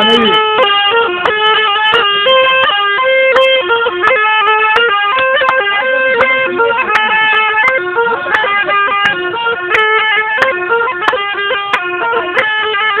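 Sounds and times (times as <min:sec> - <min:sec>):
reedy wind instrument melody: 0:00.0 - 0:13.0.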